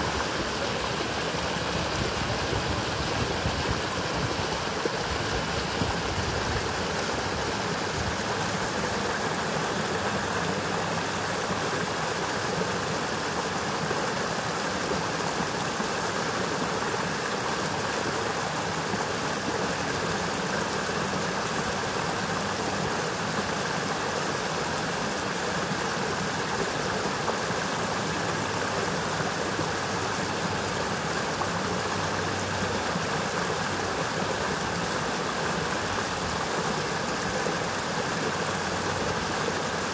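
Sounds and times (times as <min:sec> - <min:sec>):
brook water rushing: 0:00.0 - 0:39.9.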